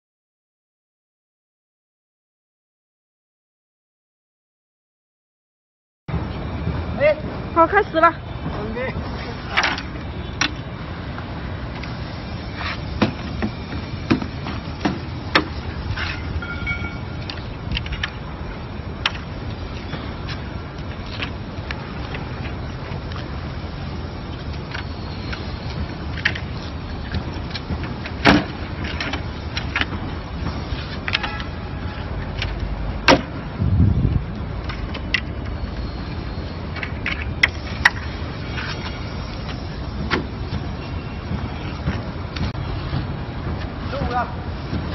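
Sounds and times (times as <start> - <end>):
steady background noise: 6.1 - 44.9.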